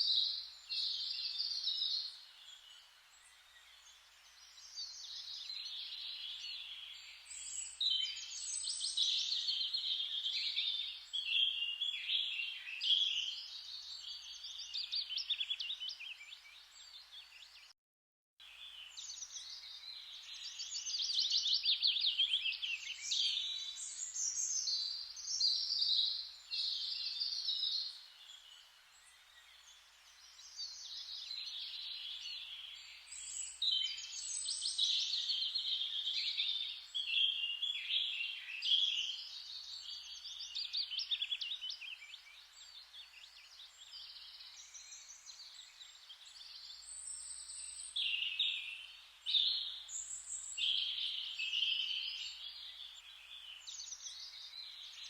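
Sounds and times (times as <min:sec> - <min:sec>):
faint steady hiss: 0:00.0 - 0:17.6, 0:18.4 - 0:55.0
birds chirping and singing: 0:04.5 - 0:17.7, 0:18.6 - 0:55.0.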